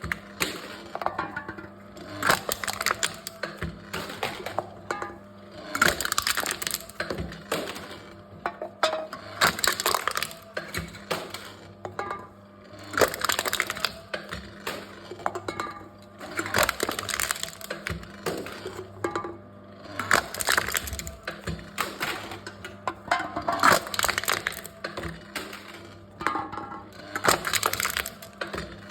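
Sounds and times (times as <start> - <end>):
cans crushed by machine: 0.0 - 28.9.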